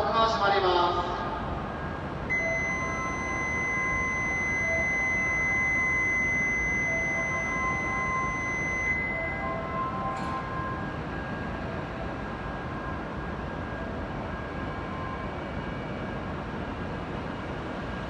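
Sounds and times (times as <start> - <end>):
high electronic warning tone: 1.8 - 17.6.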